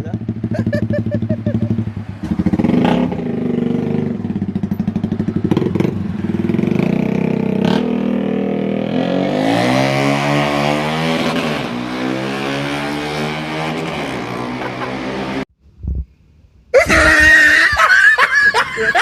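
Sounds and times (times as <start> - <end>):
motorcycle engine idling and revving: 0.0 - 15.5.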